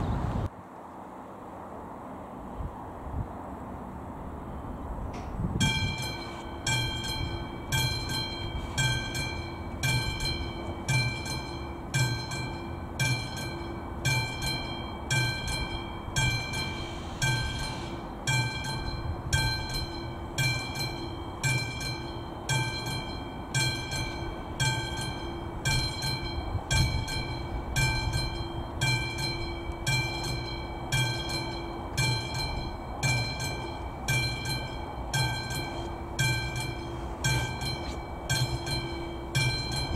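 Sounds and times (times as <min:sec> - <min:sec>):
level crossing bell ringing: 0:05.6 - 0:39.9.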